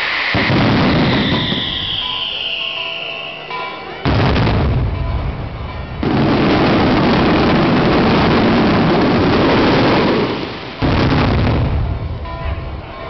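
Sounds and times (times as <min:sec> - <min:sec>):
firework bang: 0:00.0 - 0:12.4
rapid barrage of firework bursts: 0:00.0 - 0:12.8.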